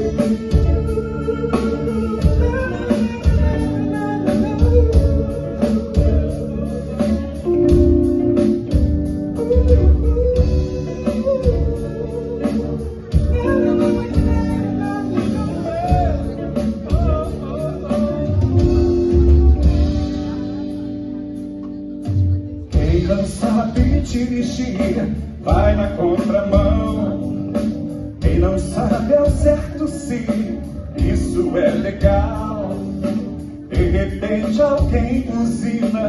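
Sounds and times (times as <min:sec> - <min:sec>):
live band playing gospel music: 0:00.0 - 0:36.0.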